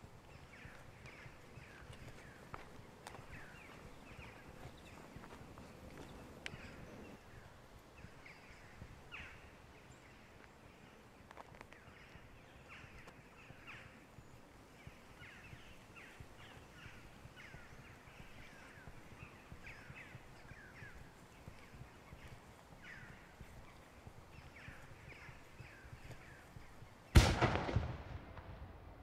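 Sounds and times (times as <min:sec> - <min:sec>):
small birds chirping: 0:00.0 - 0:27.2.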